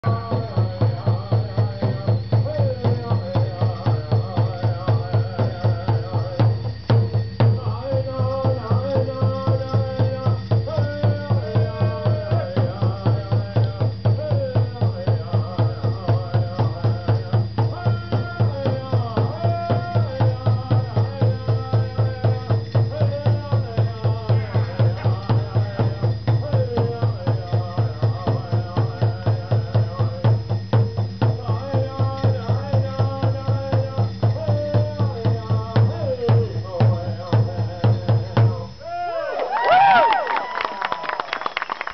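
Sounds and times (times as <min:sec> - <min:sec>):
drum beating: 0:00.0 - 0:38.8
chanted singing: 0:00.0 - 0:41.3.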